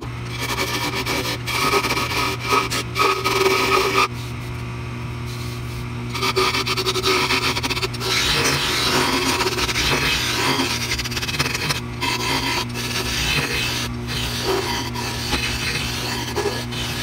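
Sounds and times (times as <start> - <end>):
lathe motor hum: 0.0 - 4.2, 6.0 - 17.0
tool scraping spinning wood: 0.0 - 4.4, 5.3 - 17.0.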